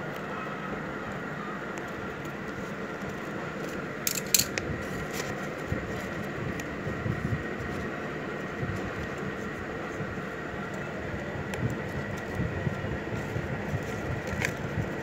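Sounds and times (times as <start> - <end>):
paper crackling and rustling: 1.8 - 15.0.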